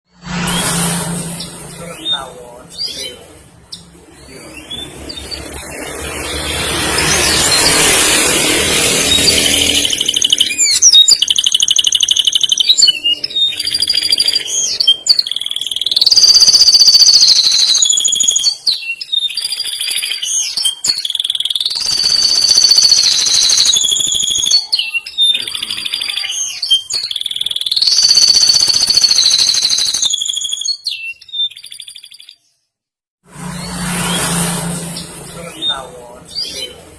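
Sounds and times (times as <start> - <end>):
canary singing trills: 1.4 - 32.6.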